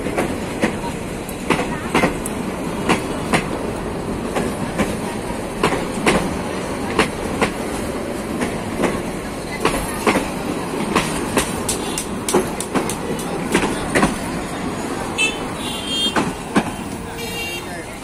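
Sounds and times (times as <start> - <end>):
train coaches rumbling past: 0.0 - 18.0
wheels clicking on rail joints: 0.0 - 18.0.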